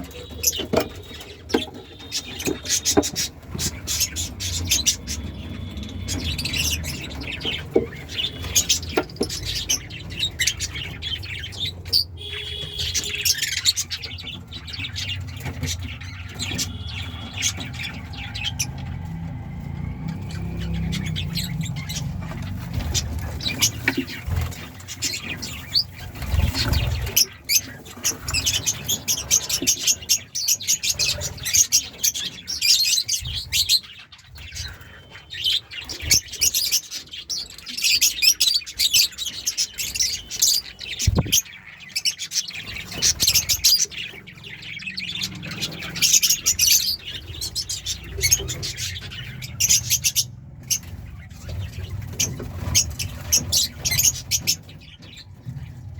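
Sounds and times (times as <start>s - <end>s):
lovebirds chattering: 0.0s - 55.9s.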